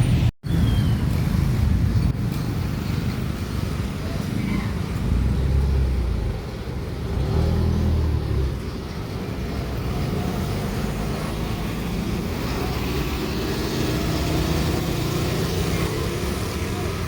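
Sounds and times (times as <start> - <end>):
heavy truck engines rumbling: 0.0 - 17.0
traffic noise: 0.0 - 17.0.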